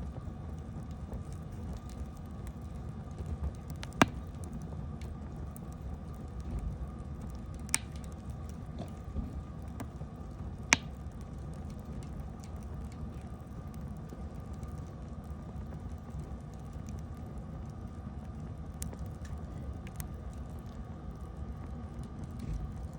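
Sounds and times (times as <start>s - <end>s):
campfire crackling: 0.0s - 22.9s
loud fire pops: 0.1s - 22.9s.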